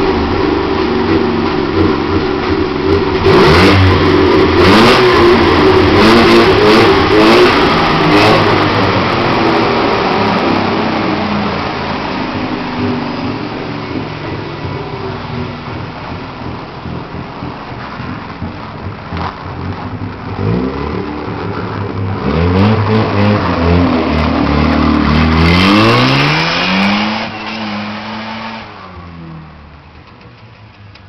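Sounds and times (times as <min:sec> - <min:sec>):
rotary engine idling and revving: 0:00.0 - 0:31.0.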